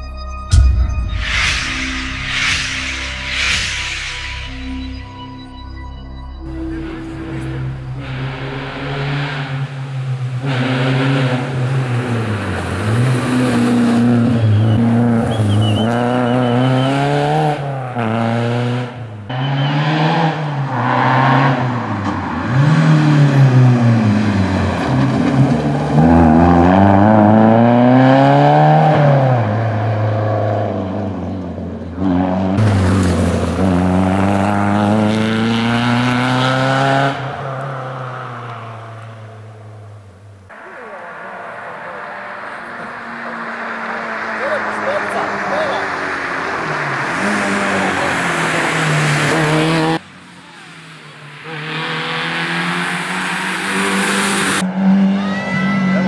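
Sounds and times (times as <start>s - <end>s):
rally car engine revving: 6.5s - 56.0s.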